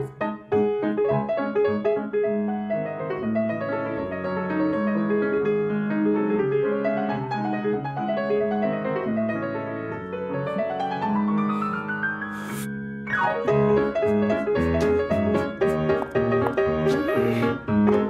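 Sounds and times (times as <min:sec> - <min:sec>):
piano playing: 0:00.0 - 0:18.0.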